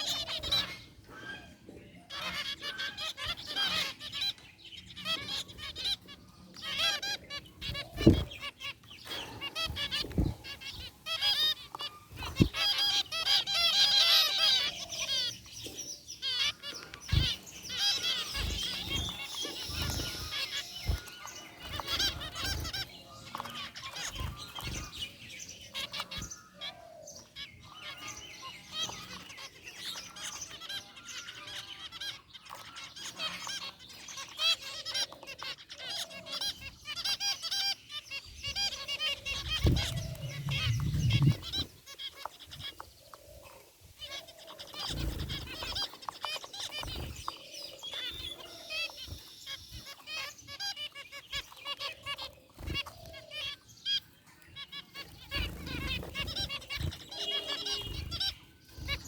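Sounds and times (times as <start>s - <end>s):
finches honking and chirping: 0.0s - 59.0s.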